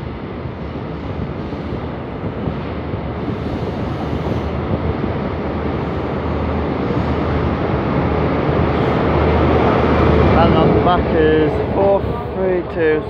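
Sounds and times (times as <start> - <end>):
diesel train rumble: 0.0 - 13.0
rail noise: 0.0 - 13.0.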